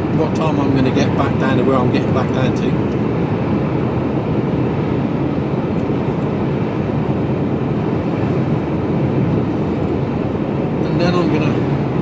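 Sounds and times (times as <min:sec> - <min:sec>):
lorry engine and road drone: 0:00.0 - 0:12.0.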